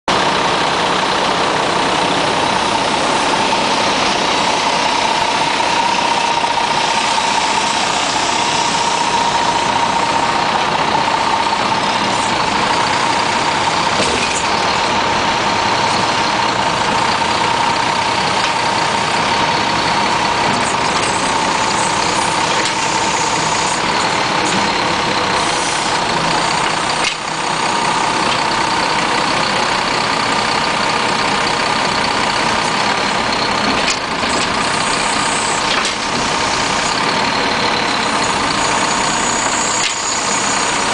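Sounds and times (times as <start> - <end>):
diesel engine idling: 0.1 - 40.9
steady high whine: 0.1 - 40.9.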